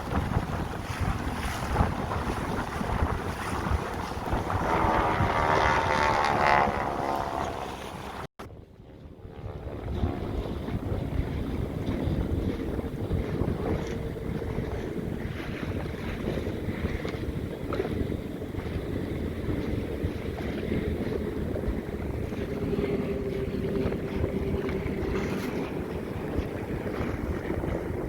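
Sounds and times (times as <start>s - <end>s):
boat engine rumble: 0.0s - 28.0s
water around boat: 0.0s - 28.0s
wind buffeting microphone: 0.0s - 28.0s.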